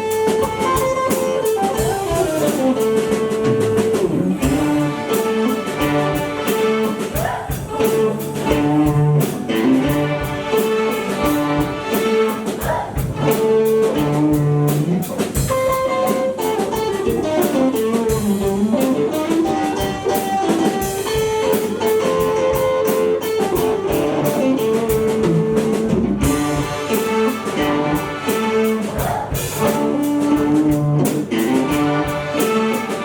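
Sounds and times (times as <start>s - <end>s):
pizzicato strings melody: 0.0s - 33.0s.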